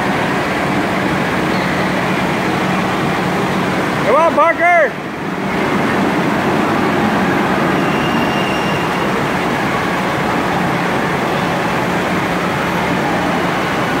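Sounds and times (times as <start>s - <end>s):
crowd noise: 0.0s - 14.0s.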